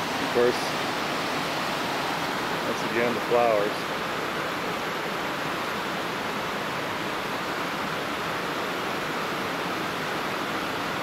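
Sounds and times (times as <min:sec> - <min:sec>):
fast-flowing creek rushing: 0:00.0 - 0:11.0.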